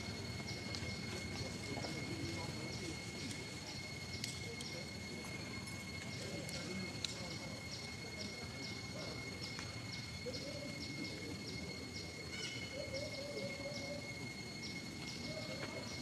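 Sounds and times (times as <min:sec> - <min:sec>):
high-pitched whine: 0:00.0 - 0:16.0
low background rush: 0:00.0 - 0:16.0.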